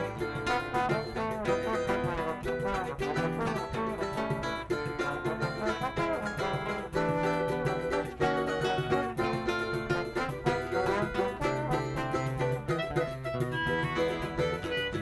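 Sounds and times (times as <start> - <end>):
cavaquinho plucking: 0.0 - 15.0
pandeiro rhythm: 0.0 - 15.0
plucked guitar: 0.0 - 15.0
trombone: 0.0 - 15.0.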